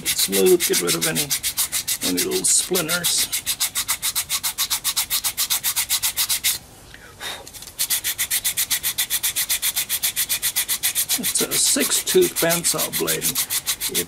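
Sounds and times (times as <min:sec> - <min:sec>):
sandpaper rasping on wood: 0:00.0 - 0:06.6, 0:07.7 - 0:14.0.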